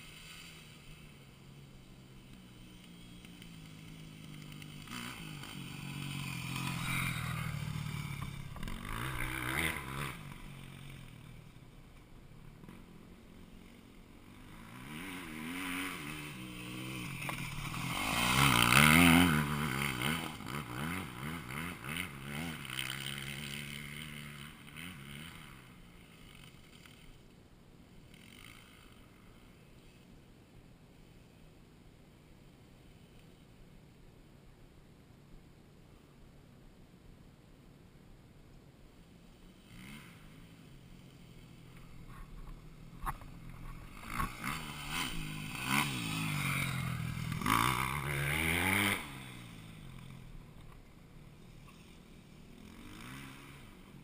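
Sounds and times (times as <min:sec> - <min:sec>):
dirt bike engines revving: 0:00.0 - 0:27.3, 0:27.9 - 0:30.0, 0:39.3 - 0:54.0.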